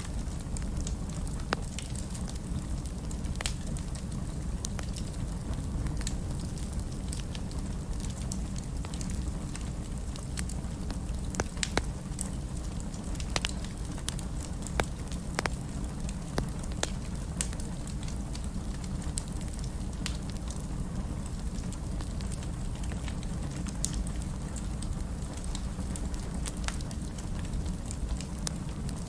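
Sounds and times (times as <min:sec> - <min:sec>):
fire crackling and snapping: 0:00.0 - 0:29.0
low rumble of flames: 0:00.0 - 0:29.0.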